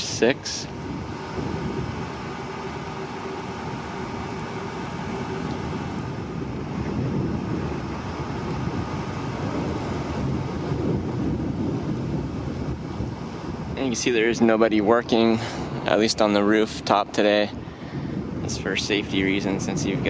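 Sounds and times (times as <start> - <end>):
outdoor background hum: 0.0 - 20.0
wind blowing across microphone: 0.0 - 20.0.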